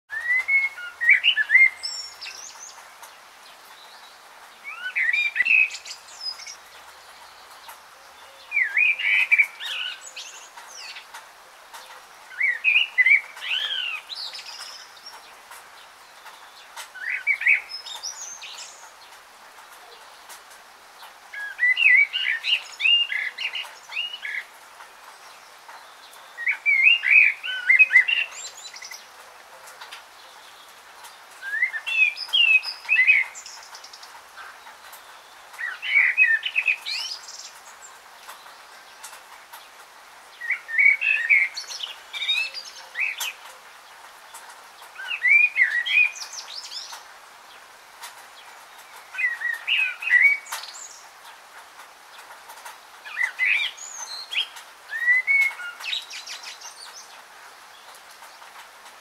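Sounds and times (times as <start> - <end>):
faint steady hiss: 0.1 - 59.0
songbird singing: 0.1 - 59.0.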